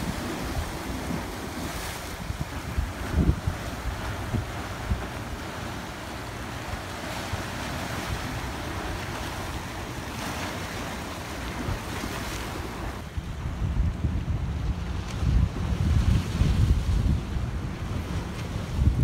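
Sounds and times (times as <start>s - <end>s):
ocean surf on a beach: 0.0s - 19.0s
wind buffeting microphone: 0.0s - 19.0s.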